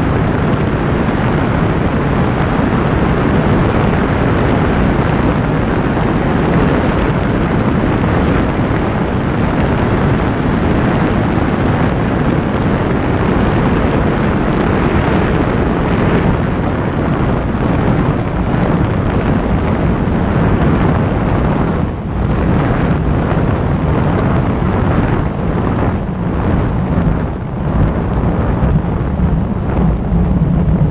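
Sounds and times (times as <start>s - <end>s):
wind rush over microphone: 0.0s - 30.9s.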